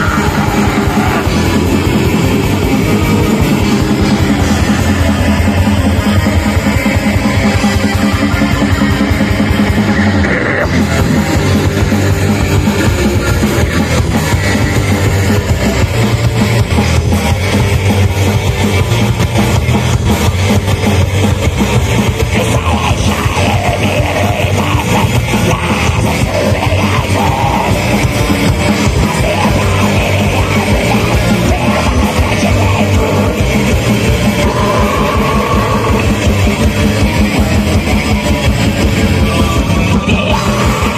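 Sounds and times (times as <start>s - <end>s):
live metal band playing: 0.0s - 40.9s.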